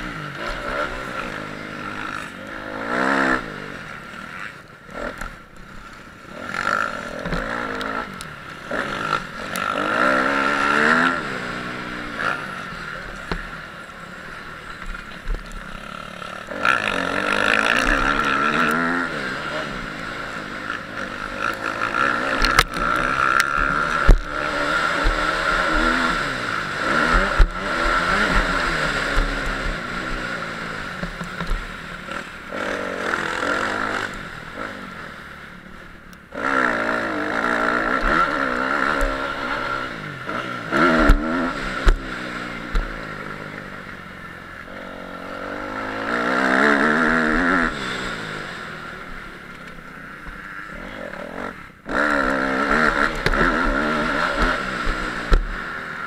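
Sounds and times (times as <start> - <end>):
motocross bikes revving past: 0.0 - 56.0.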